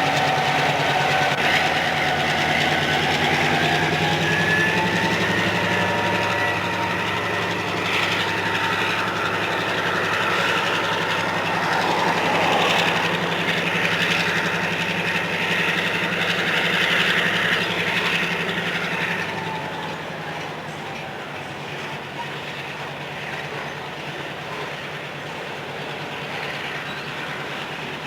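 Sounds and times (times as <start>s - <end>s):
diesel locomotive engine throbbing: 0.0s - 28.0s
train wheels hissing on rails: 0.0s - 28.0s.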